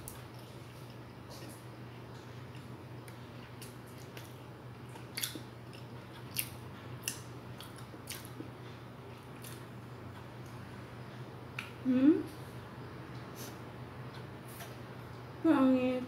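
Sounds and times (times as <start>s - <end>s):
person chewing food: 0.0s - 11.8s, 13.1s - 14.8s
steady low hum: 0.0s - 16.0s.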